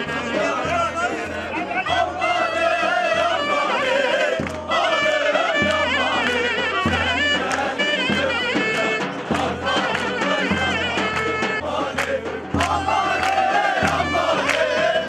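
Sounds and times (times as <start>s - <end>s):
deep drum beats: 0.0s - 15.0s
shrill reed-pipe melody: 0.0s - 15.0s.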